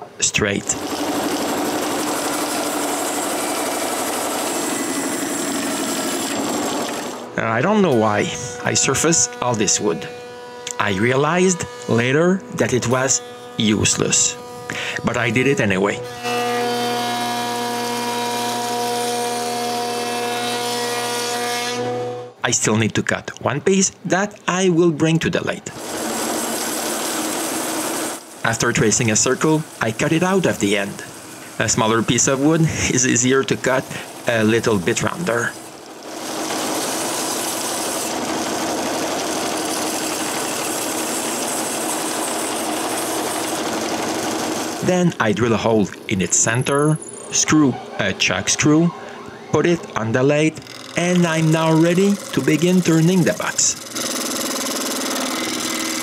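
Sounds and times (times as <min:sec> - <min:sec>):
woodworking power tool humming: 0:00.0 - 0:22.4, 0:25.7 - 0:47.6, 0:48.4 - 0:56.0.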